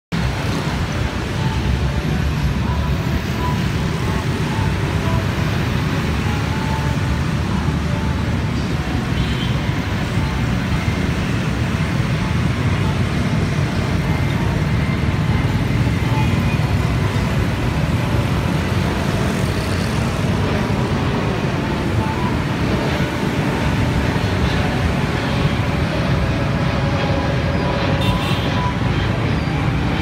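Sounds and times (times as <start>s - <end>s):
street traffic: 0.1s - 30.0s
jet engine roar overhead: 0.2s - 30.0s
motorbikes passing: 0.2s - 30.0s.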